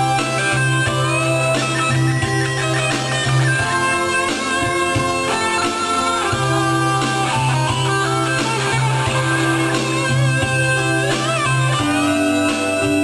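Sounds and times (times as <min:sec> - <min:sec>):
guitar long held notes: 0:00.0 - 0:13.0
steady bass line: 0:00.0 - 0:13.0.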